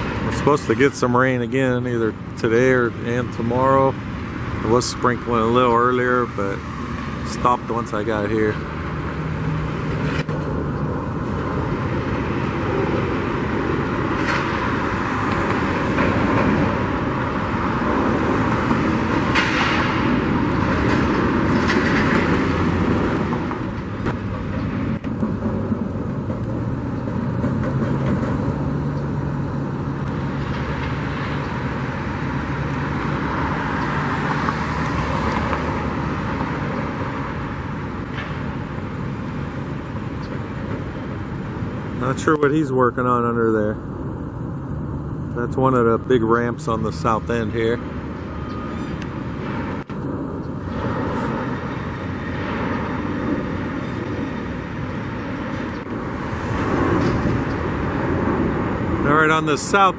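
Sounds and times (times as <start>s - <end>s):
vehicle engines droning: 0.0s - 59.9s.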